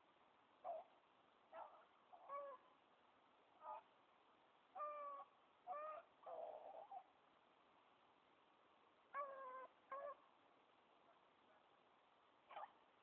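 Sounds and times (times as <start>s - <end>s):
hunting hounds baying faintly: 0.0s - 7.3s, 9.0s - 13.0s.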